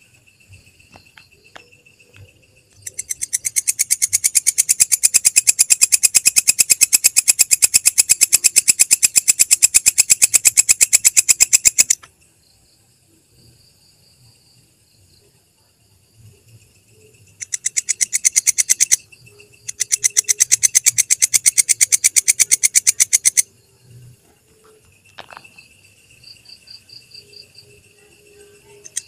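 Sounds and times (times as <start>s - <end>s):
katydid pulsed trill: 0.0s - 12.0s, 16.2s - 29.0s.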